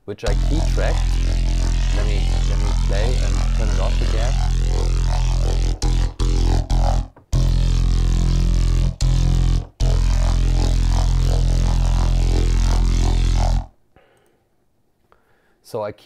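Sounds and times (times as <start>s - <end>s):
distorted synth bass notes: 0.3s - 13.7s.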